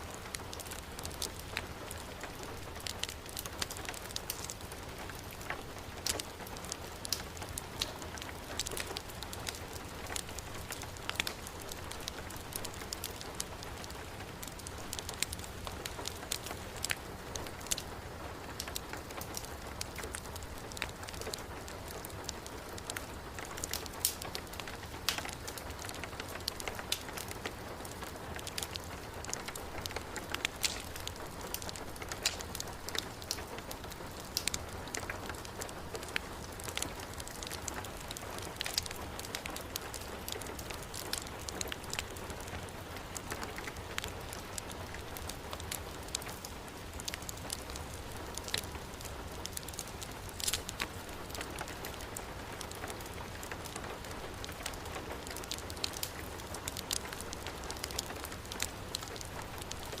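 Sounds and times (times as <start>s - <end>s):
heavy rain: 0.0s - 60.0s
wood fire crackling and popping: 0.0s - 60.0s.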